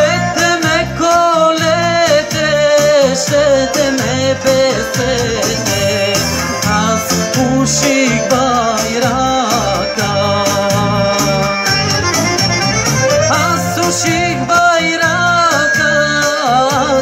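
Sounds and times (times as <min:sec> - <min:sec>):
man singing into a microphone: 0:00.0 - 0:12.2, 0:13.2 - 0:17.0
amplified band music: 0:00.0 - 0:17.0.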